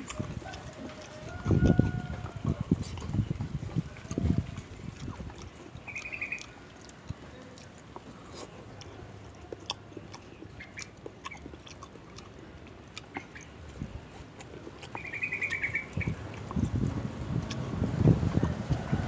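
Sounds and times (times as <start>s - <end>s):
person chewing food: 0.0s - 19.0s
wet mouth clicks and smacks: 0.0s - 19.0s.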